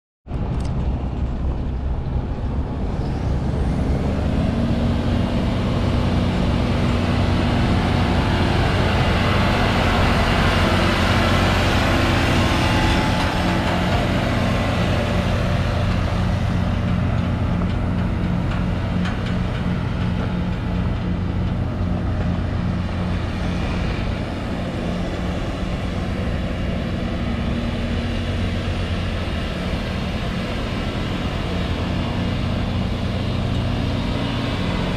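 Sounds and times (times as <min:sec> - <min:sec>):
truck diesel engine passing: 0:00.4 - 0:34.9.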